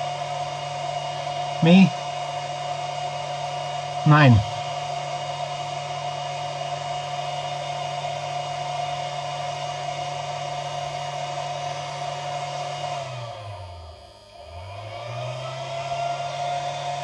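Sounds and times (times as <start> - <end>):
electric fan motor whining: 0.0 - 17.0.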